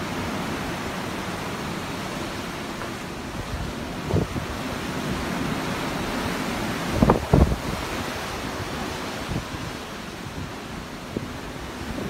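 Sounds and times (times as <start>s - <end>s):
ocean waves rushing: 0.0s - 12.0s.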